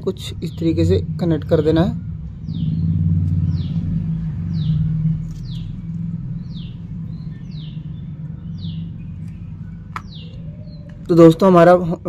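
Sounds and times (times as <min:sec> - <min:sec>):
low hum: 0:00.0 - 0:11.6
bird chirping: 0:00.0 - 0:12.0.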